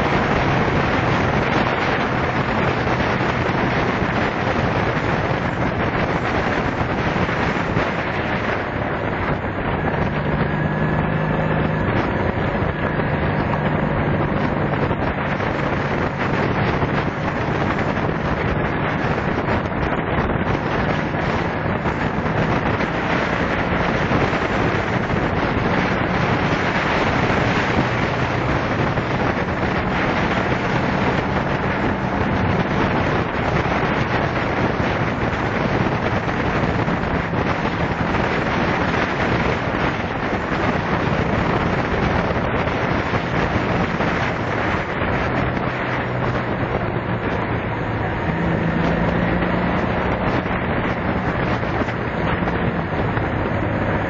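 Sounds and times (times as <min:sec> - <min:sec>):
motorcycle engine drone: 0:00.0 - 0:54.0
wind rushing over microphone: 0:00.0 - 0:54.0.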